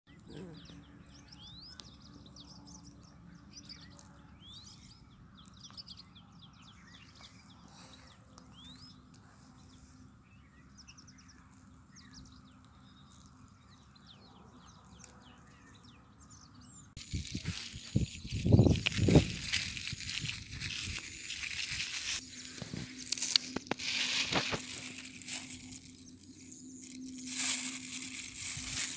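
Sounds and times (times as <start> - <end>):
birds chirping faintly: 0.1 - 28.9.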